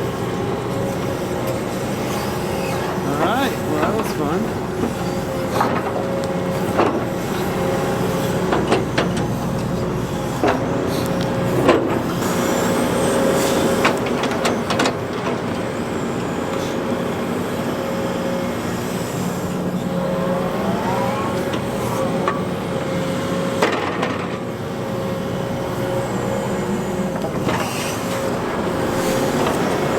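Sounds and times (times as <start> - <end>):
excavator engine and hydraulic whine: 0.0 - 29.9.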